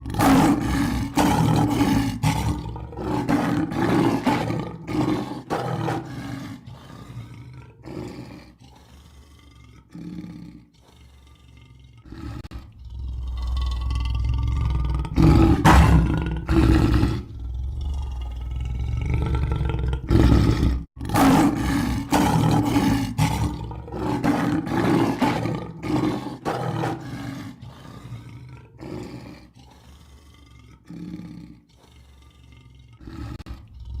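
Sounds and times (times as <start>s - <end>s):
lion roaring: 0.0s - 34.0s.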